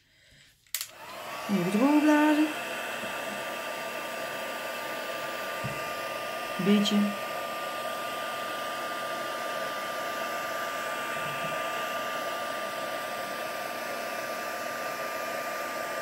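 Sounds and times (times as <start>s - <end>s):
heat gun blowing: 0.7s - 16.0s.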